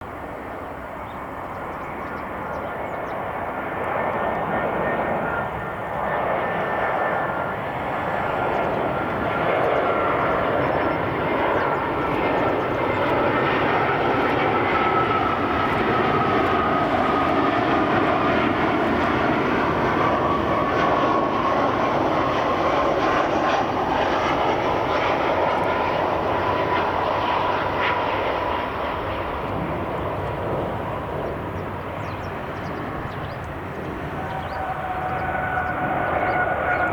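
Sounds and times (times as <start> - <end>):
jet engines with falling whine: 0.0 - 36.9.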